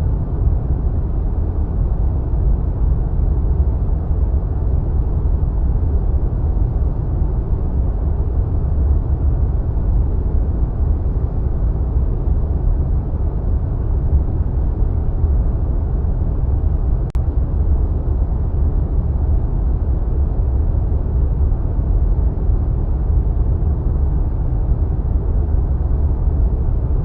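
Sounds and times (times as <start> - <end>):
deep rush of wind: 0.0 - 27.0.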